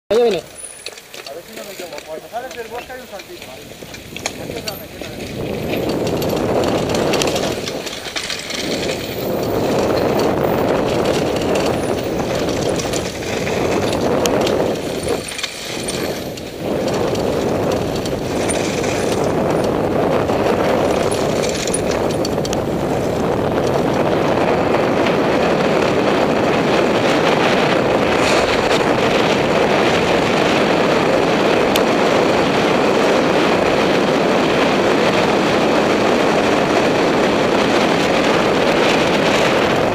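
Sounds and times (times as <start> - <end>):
bike rattling: 0.1 - 39.9
bike tyres on gravel: 0.1 - 39.9
wind rushing on microphone: 1.3 - 39.9.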